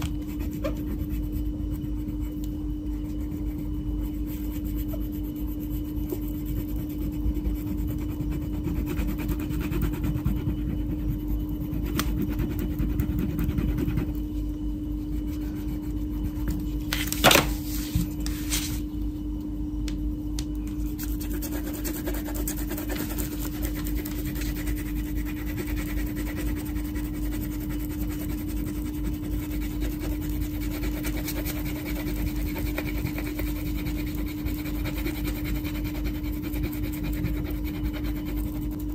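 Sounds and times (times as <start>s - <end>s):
wax crayon scratching on paper: 0.0s - 14.3s, 15.0s - 17.1s, 20.8s - 38.9s
steady hum: 0.0s - 38.9s.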